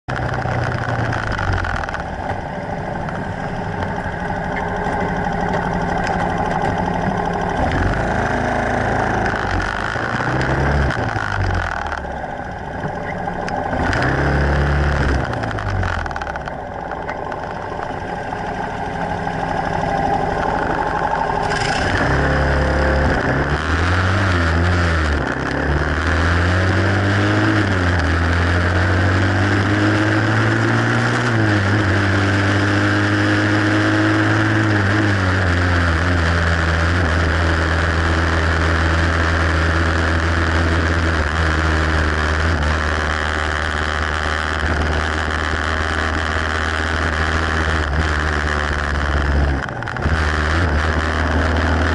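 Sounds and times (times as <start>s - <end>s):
motorcycle engine revving through gears: 0.0s - 51.9s.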